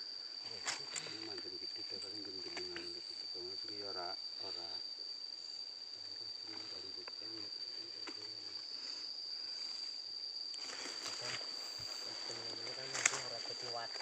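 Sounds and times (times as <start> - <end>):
insects high-pitched drone: 0.0 - 14.0.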